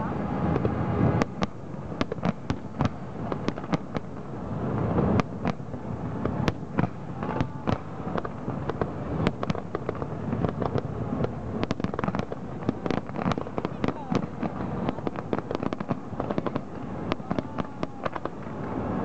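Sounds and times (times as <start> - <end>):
fireworks bangs and crackles: 0.0 - 19.0
steady low rumble: 0.0 - 19.0.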